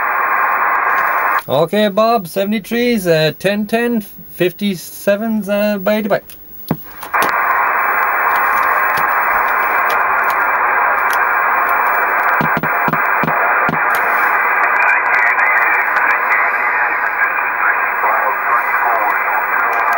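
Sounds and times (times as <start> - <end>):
radio receiver hiss: 0.0 - 19.9.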